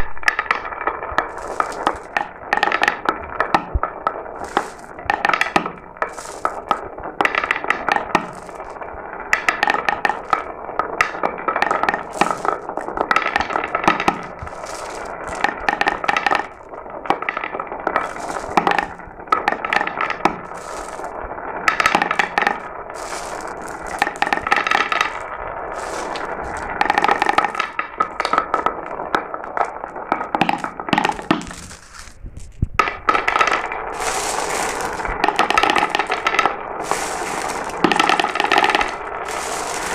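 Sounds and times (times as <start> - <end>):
marbles clattering down a track: 0.0 - 39.9.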